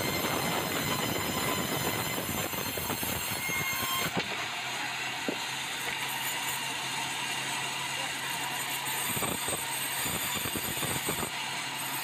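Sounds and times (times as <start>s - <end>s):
band saw cutting log: 0.0s - 12.0s
saw running with low hum: 0.0s - 12.0s.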